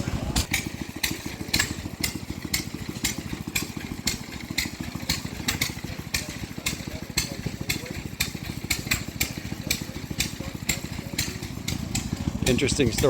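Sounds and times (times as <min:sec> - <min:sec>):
engine running with low pulsing: 0:00.0 - 0:13.0.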